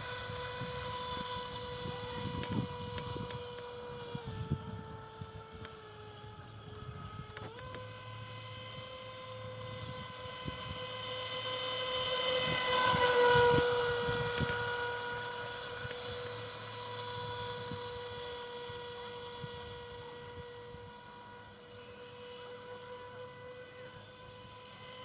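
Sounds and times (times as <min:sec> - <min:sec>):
toy speedboat motor whining: 0:00.0 - 0:25.0.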